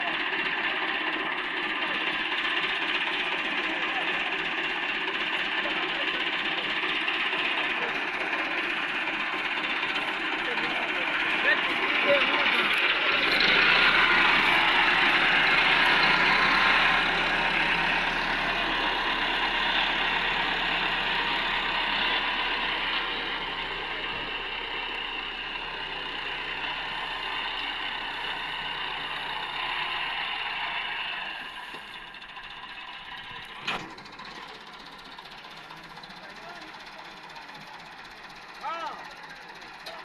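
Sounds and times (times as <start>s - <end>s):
threshing machine running: 0.0s - 40.0s
tractor engine running: 0.0s - 40.0s.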